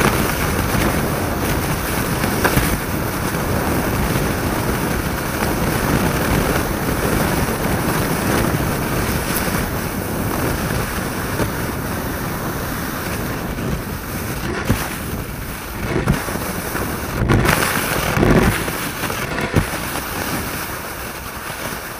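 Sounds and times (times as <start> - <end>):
skis gliding on snow: 0.0 - 21.9
skis knocking over bumps: 0.0 - 21.9
wind rushing on microphone: 0.0 - 21.9.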